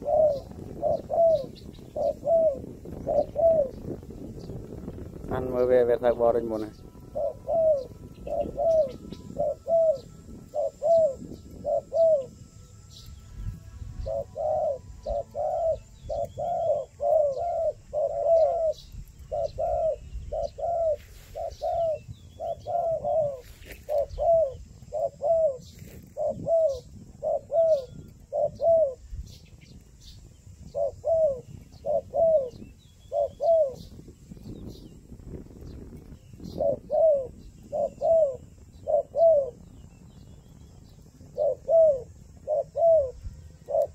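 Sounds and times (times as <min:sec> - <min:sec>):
dove cooing: 0:00.0 - 0:29.7, 0:30.6 - 0:43.9
small birds chirping: 0:00.0 - 0:43.9.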